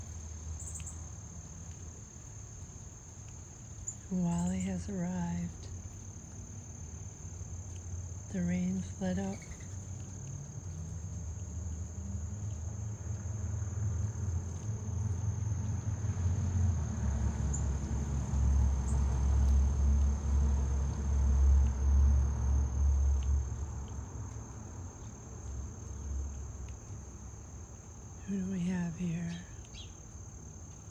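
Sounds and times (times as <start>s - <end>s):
crickets trilling: 0.0s - 30.9s.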